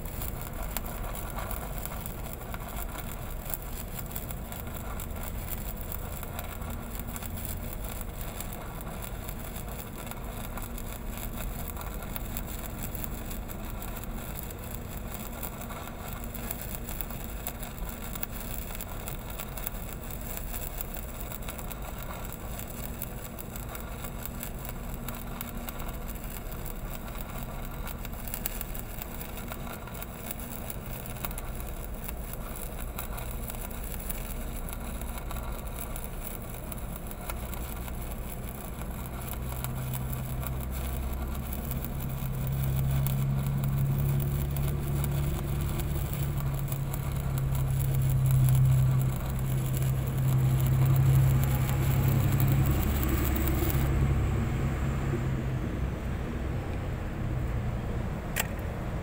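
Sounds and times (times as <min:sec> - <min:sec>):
welding arc crackling hiss: 0:00.0 - 0:57.1
engine running: 0:00.0 - 0:59.0.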